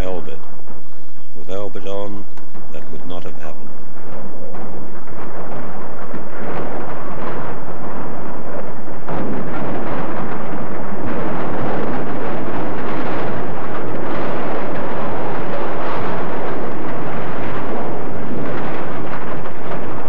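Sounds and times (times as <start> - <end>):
metal and rock crashing: 0.0 - 20.0.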